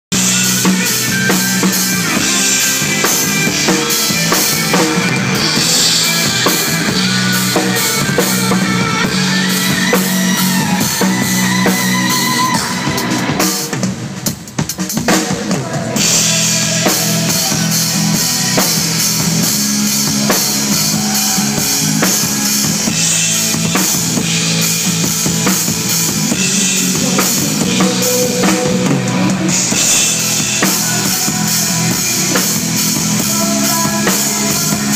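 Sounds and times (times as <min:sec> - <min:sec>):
drum kit bass drum and snare: 0:00.1 - 0:34.9
rock band playing live: 0:00.1 - 0:34.9.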